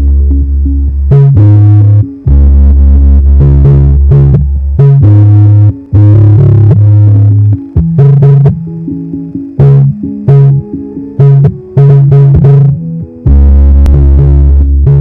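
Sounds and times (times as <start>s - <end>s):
bass-heavy electronic music: 0.0s - 15.0s.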